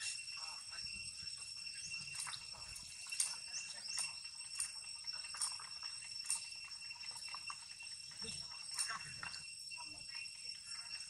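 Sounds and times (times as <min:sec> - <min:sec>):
monkey clicks and chirps: 0:01.7 - 0:11.0.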